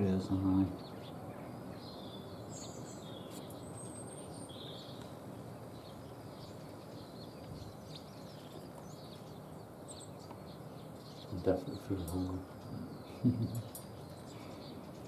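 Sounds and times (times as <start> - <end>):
outdoor background hiss: 0.0 - 15.0
small birds chirping: 0.0 - 15.0.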